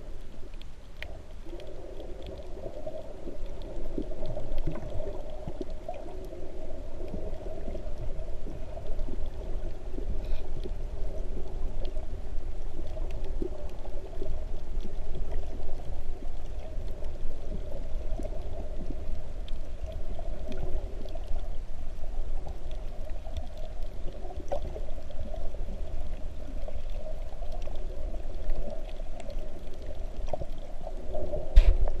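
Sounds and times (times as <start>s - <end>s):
faint clicks: 0.1s - 32.0s.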